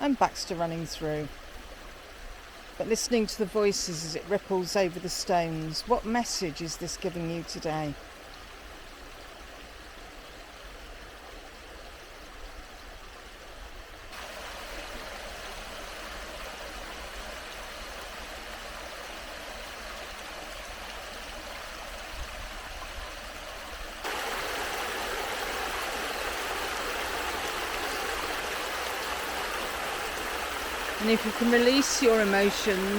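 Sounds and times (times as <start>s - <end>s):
stream rippling over stones: 0.0s - 32.9s.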